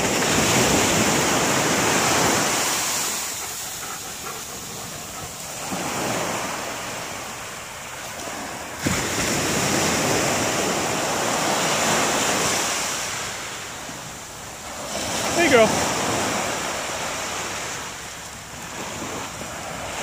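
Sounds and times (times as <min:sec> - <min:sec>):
surf breaking on beach: 0:00.0 - 0:20.0.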